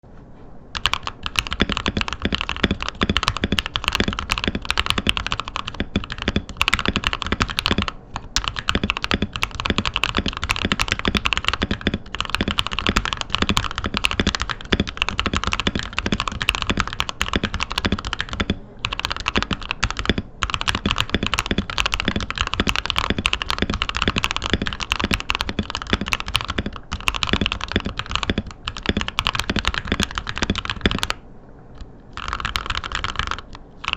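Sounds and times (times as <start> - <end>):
typing on mechanical keyboard: 0.8 - 31.2, 31.8 - 33.9.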